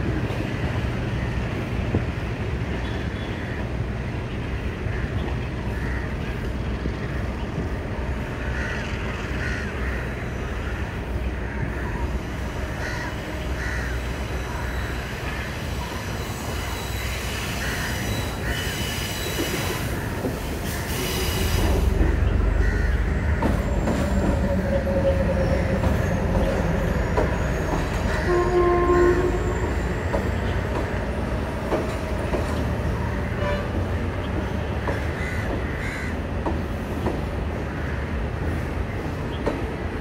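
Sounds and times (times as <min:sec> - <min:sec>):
diesel locomotive engine rumble: 0:00.0 - 0:40.0
train rolling by: 0:00.0 - 0:40.0.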